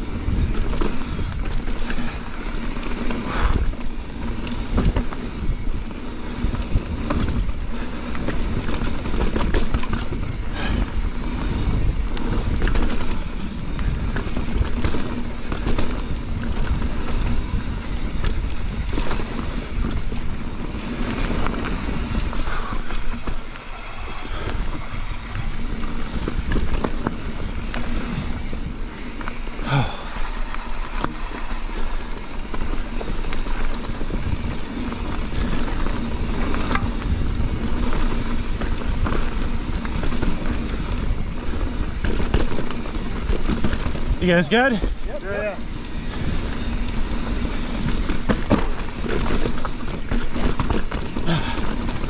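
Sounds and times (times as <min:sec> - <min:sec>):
bike knocking and rattling: 0:00.0 - 0:52.0
bike tyre rumble: 0:00.0 - 0:52.0
wind on microphone: 0:00.0 - 0:52.0.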